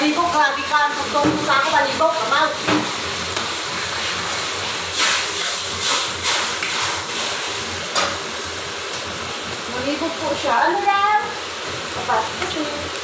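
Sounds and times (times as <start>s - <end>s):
food frying in pan: 0.0s - 13.0s.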